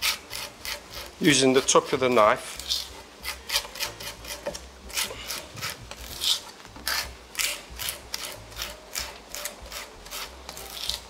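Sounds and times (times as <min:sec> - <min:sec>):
knife scraping garlic on cutting board: 0:00.0 - 0:11.0.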